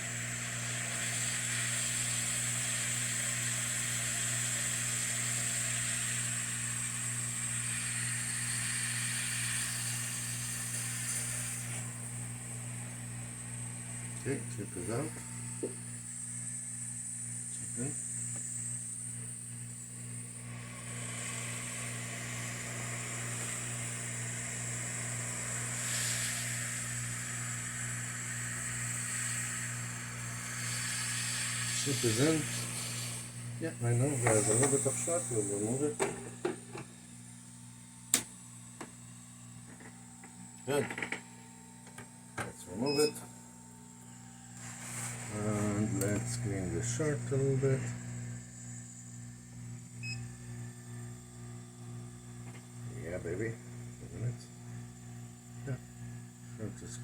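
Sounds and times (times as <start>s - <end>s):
hot-air rework station hissing: 0.0s - 57.0s
low even hum: 5.6s - 57.0s.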